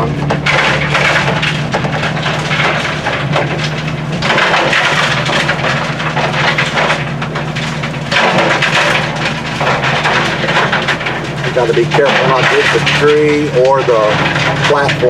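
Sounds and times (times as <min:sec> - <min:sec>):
excavator engine hum: 0:00.0 - 0:15.0
gritty crunching and rattling ore: 0:00.0 - 0:15.0.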